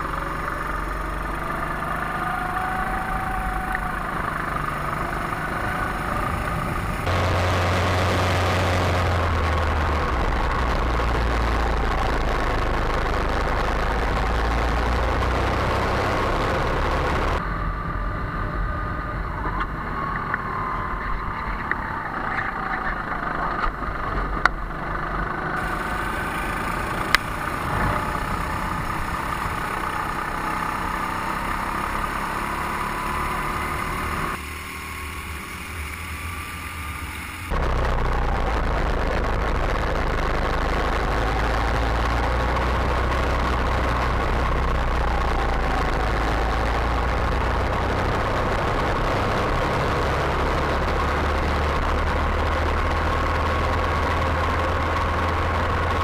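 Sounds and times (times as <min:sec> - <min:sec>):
go-kart engines running: 0:00.0 - 0:56.0.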